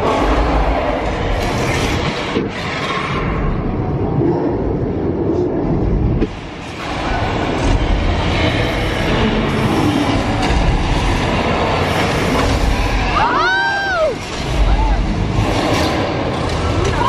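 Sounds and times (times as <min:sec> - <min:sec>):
loud rumbling din: 0:00.0 - 0:17.0.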